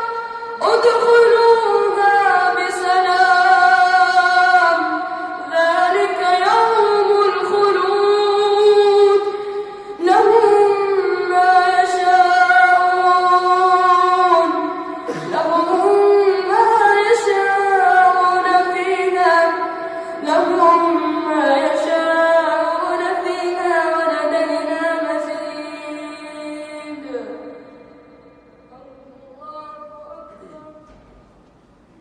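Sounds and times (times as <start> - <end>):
boy reciting melodically: 0.0 - 31.0.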